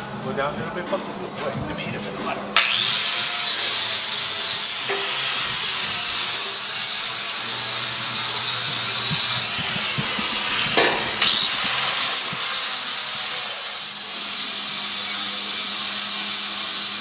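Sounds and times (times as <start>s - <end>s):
angle grinder grinding steel: 2.6s - 17.0s.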